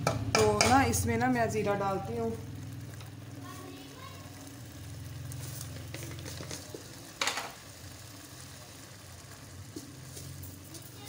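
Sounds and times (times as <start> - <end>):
food sizzling in a steel pot: 0.0 - 11.0.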